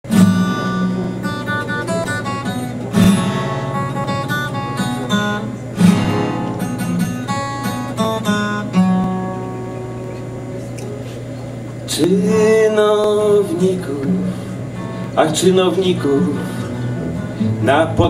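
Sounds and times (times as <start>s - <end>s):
acoustic guitar strumming and picking: 0.0s - 18.0s.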